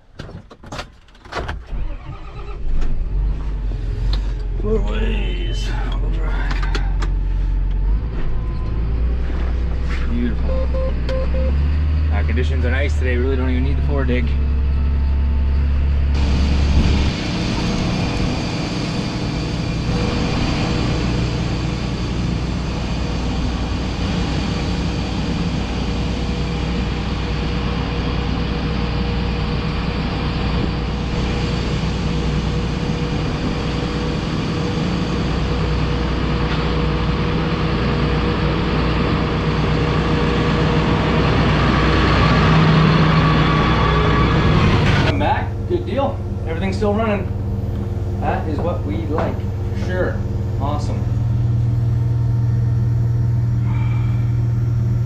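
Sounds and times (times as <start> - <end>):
heavy machinery droning: 2.8 - 55.0.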